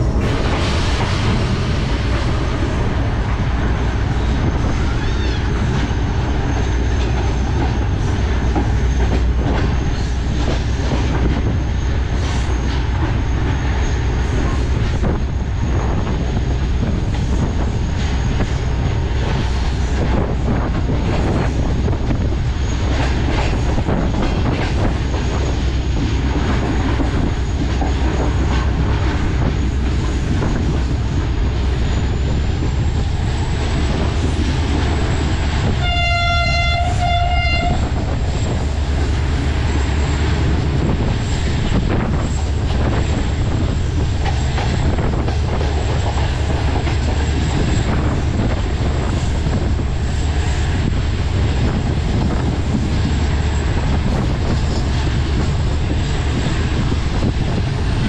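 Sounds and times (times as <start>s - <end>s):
train coaches rumbling: 0.0s - 58.0s.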